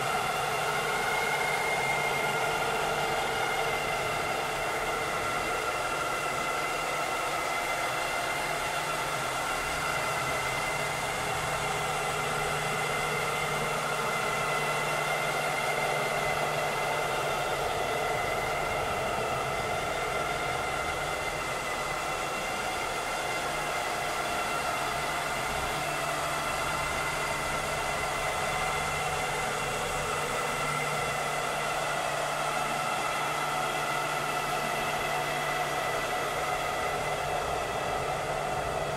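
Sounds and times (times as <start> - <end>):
robotic vacuum cleaner whirring: 0.0 - 38.9.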